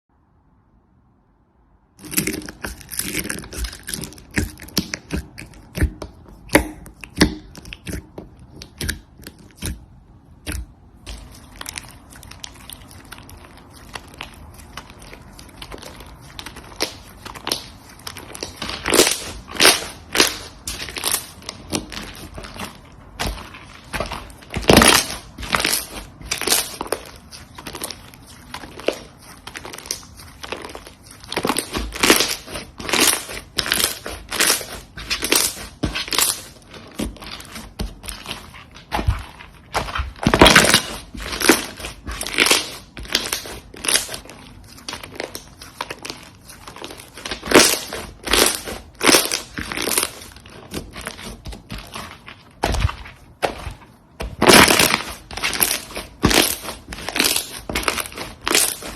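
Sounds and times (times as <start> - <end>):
slime squishing and popping: 2.0 - 58.9.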